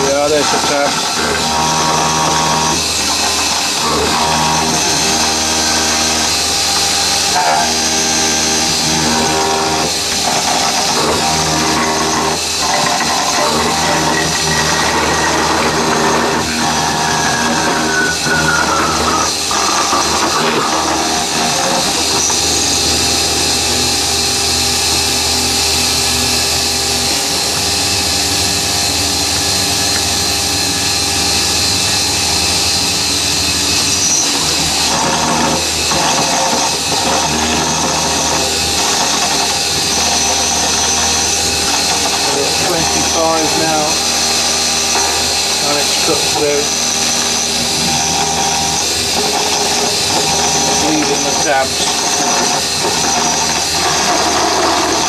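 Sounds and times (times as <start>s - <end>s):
milling machine cutting: 0.0s - 55.0s.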